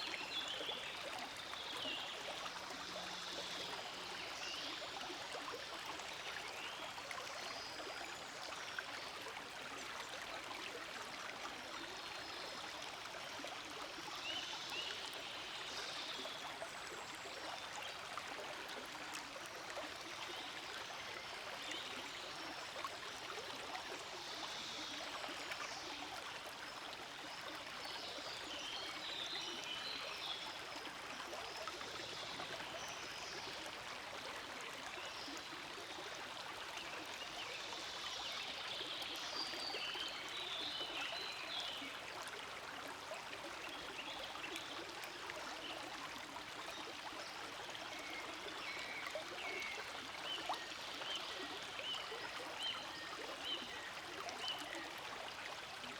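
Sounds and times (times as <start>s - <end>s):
creek water trickling and gurgling: 0.0s - 55.9s.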